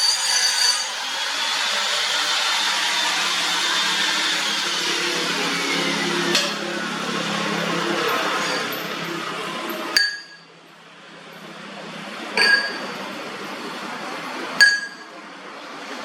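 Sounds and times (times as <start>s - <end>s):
steady running noise: 0.8s - 16.0s.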